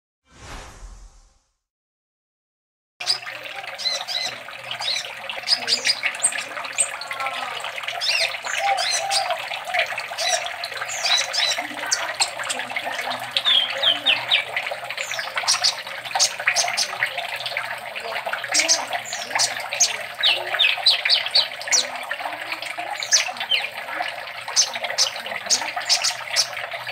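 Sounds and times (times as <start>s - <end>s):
bird singing with chirps and trills: 3.0s - 26.9s.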